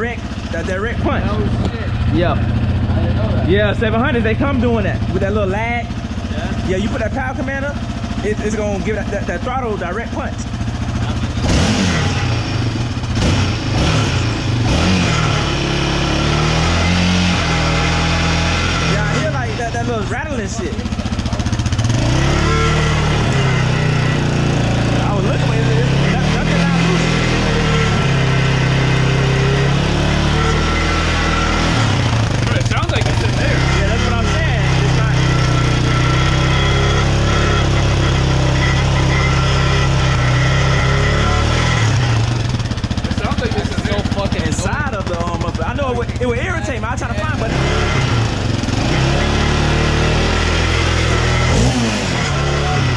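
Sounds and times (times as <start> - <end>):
quad bike engine revving and idling: 0.0 - 52.9
rattle inside muffler: 0.0 - 52.9.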